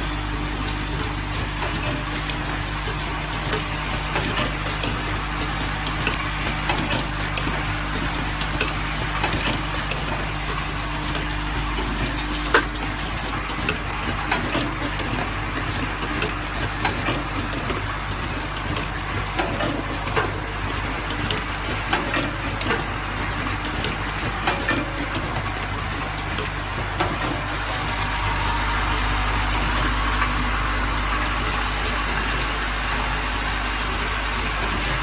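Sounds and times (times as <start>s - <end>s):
low machine hum: 0.0s - 35.0s
machine clicking and clattering: 0.0s - 35.0s.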